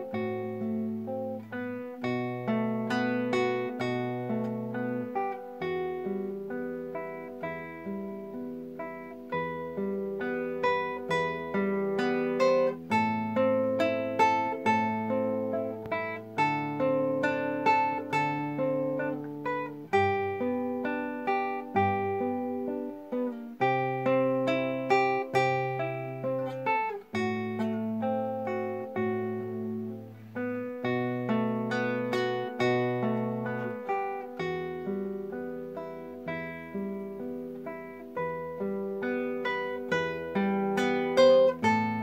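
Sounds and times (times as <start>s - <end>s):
classical guitar fingerstyle: 0.0s - 42.0s.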